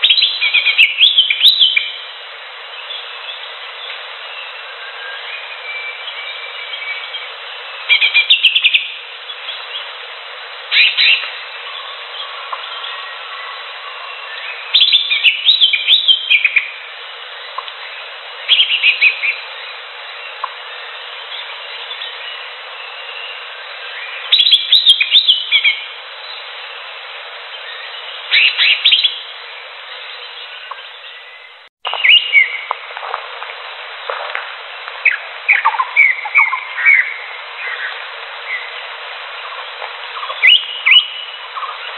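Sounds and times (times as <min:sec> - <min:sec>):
bird chirps and trills: 0:00.0 - 0:10.0, 0:10.7 - 0:26.6, 0:27.5 - 0:32.7, 0:35.0 - 0:38.8, 0:39.4 - 0:41.9
background hiss: 0:00.0 - 0:41.9.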